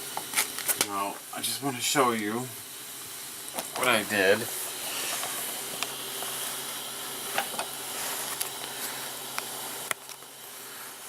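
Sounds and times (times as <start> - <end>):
cooling fan hiss: 0.0 - 11.0
low electrical hum: 0.0 - 11.0.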